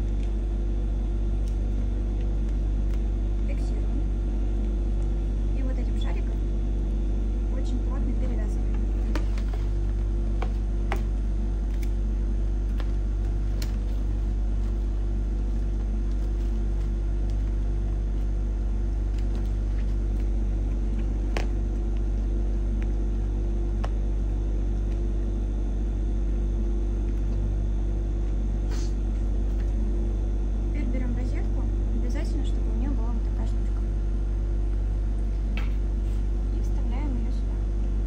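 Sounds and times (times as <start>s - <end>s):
low background hum and rumble: 0.0s - 38.0s.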